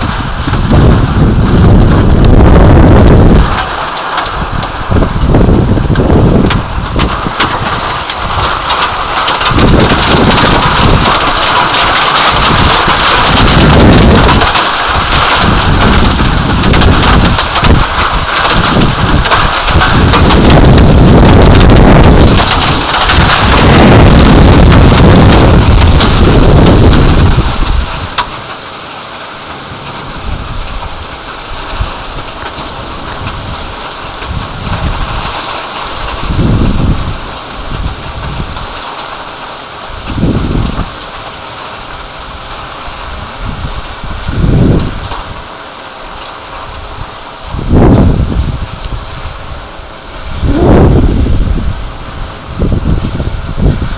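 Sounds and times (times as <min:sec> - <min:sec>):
low thunder rumbling: 0:00.0 - 0:38.8, 0:39.9 - 0:45.5, 0:46.6 - 0:53.9
heavy rain pouring: 0:00.0 - 0:53.9.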